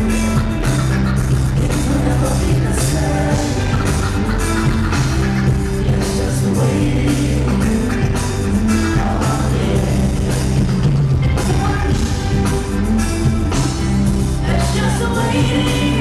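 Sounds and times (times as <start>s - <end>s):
drum beat: 0.0s - 16.0s
held bass notes: 0.0s - 16.0s
live band music: 0.0s - 16.0s.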